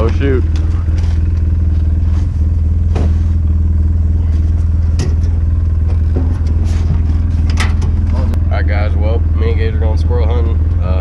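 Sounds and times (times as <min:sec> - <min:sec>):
utility vehicle engine droning: 0:00.0 - 0:11.0
vehicle body rattles and clicks: 0:00.0 - 0:11.0.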